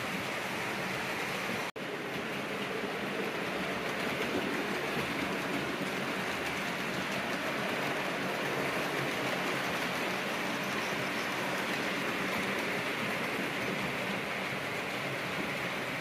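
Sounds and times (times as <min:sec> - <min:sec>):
model train wheels on rail: 0:00.0 - 0:16.0.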